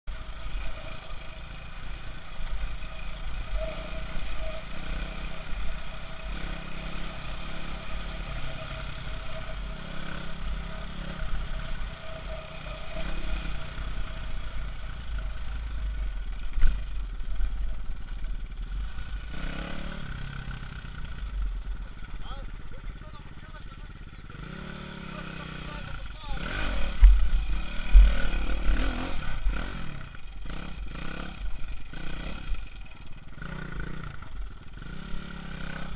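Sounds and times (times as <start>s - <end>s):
motorcycle engine revving: 0.1s - 35.9s.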